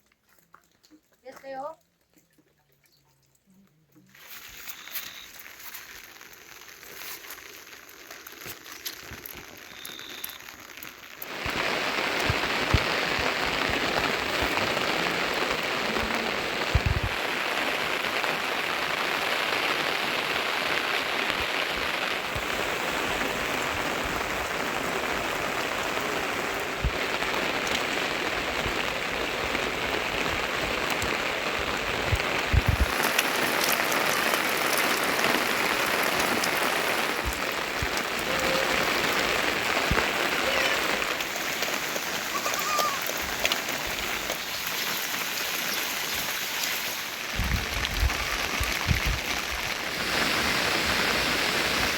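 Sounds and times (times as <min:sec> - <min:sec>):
heavy rain falling: 0:04.1 - 0:51.9.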